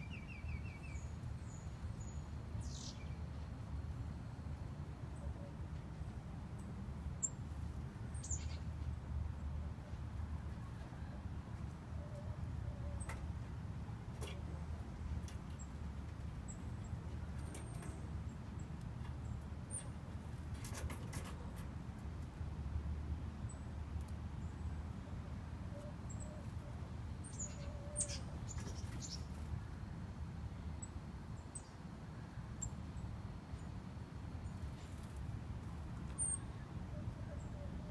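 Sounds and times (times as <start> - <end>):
songbirds chirping: 0.0 - 21.7, 23.4 - 37.9.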